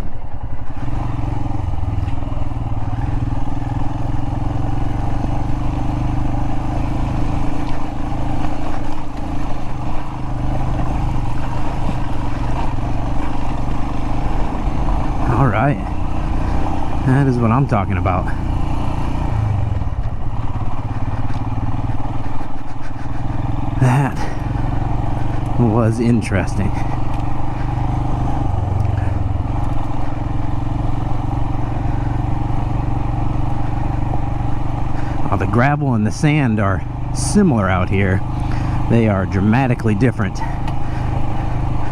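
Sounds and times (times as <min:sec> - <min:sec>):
motorcycle engine running: 0:00.0 - 0:41.9
tyre noise: 0:01.8 - 0:41.9.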